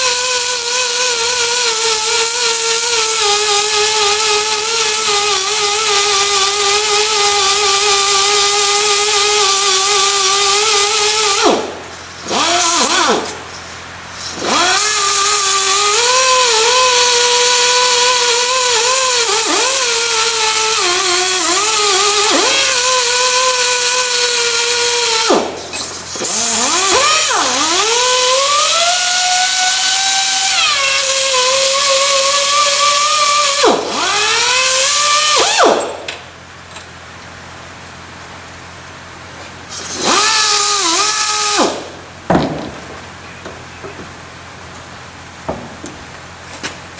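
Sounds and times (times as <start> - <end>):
power tool whining under load: 0.0 - 36.2, 39.7 - 42.0.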